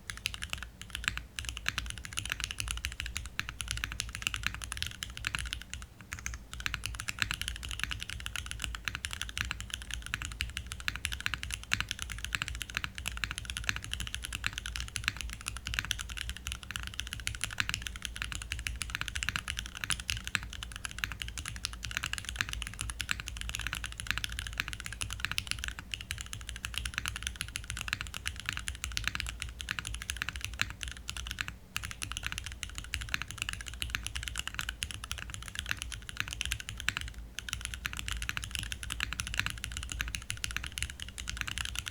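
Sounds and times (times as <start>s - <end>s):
mechanical keyboard typing: 0.0s - 41.9s.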